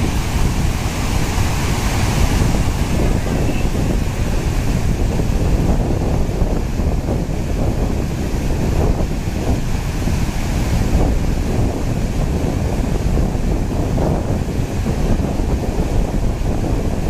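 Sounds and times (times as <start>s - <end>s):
waterfall rushing: 0.0s - 15.3s
wind buffeting microphone: 0.0s - 17.0s.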